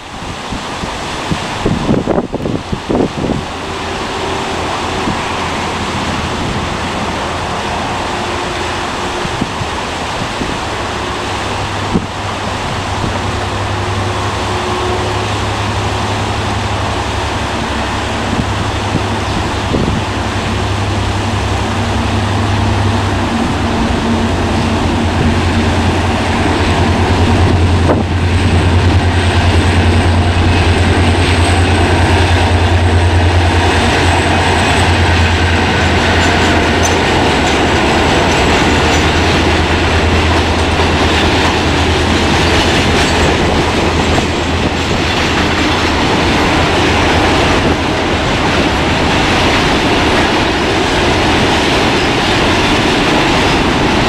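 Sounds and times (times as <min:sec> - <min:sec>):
diesel locomotive engine drone: 0:00.0 - 0:54.0
wind noise on microphone: 0:00.0 - 0:54.0.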